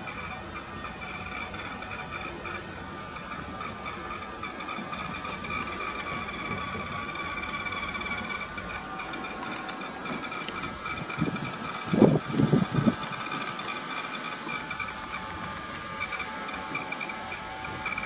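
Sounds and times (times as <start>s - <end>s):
model tram motor whine: 0.0s - 18.0s.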